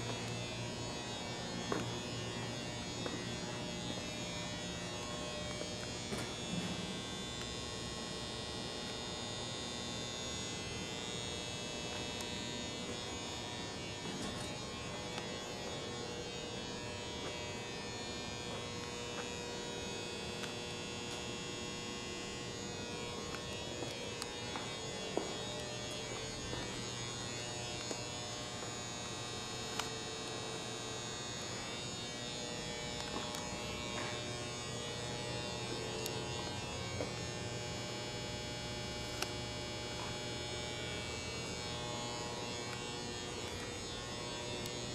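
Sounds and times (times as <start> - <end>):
steady hum and buzz: 0.0 - 44.9.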